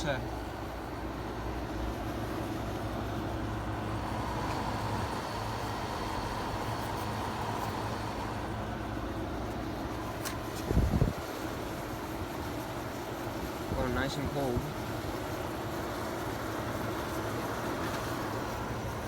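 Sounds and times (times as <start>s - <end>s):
window air conditioner running: 0.0s - 19.0s.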